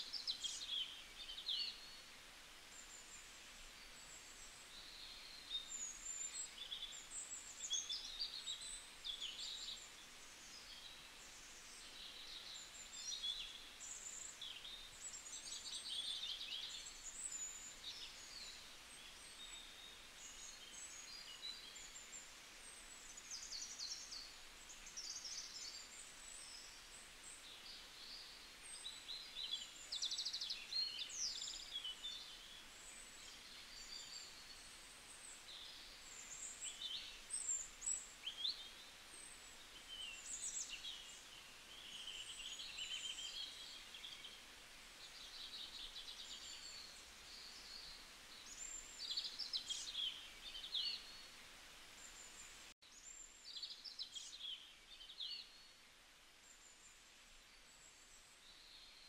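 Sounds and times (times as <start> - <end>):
soft steady hiss: 0.0 - 59.0
songbirds chirping and twittering: 0.0 - 59.0.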